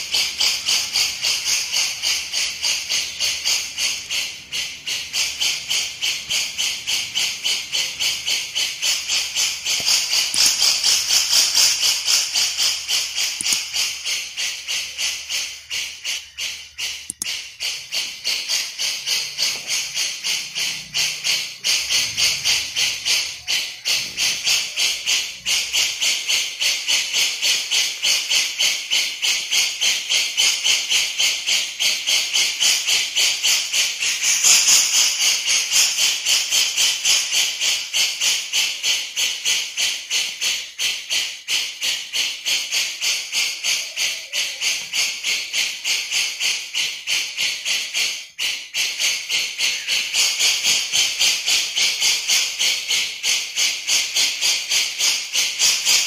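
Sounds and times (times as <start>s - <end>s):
bird harsh chattering call: 0.0s - 56.0s.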